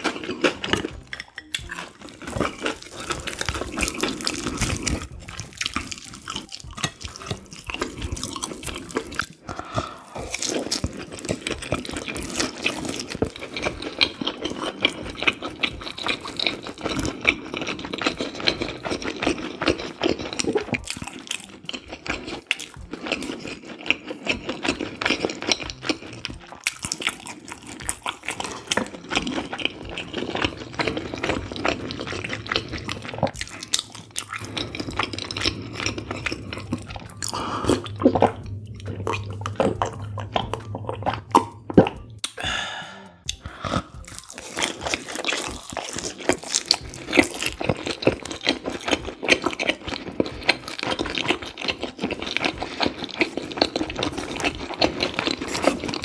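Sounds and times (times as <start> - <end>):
wet chewing and mouth noises: 0.0 - 56.0.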